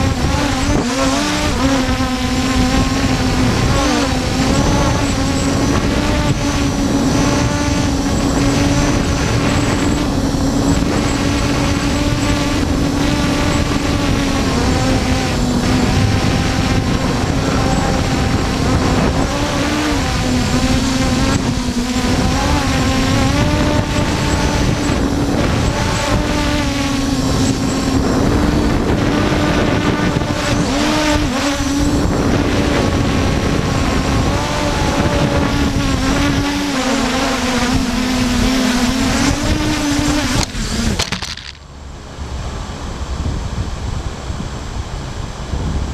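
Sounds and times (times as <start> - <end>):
quadcopter motors whining: 0.0 - 45.9
wind rumbling on microphone: 0.0 - 45.9.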